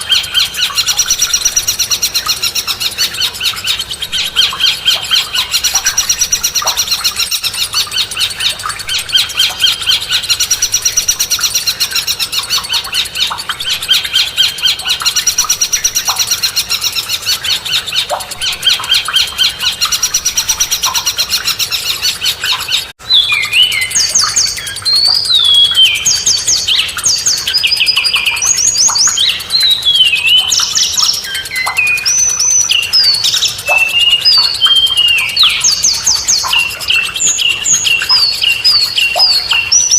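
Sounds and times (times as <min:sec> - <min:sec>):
bird whistling: 0:00.0 - 0:39.9
songbird chirping chatter: 0:00.0 - 0:39.9.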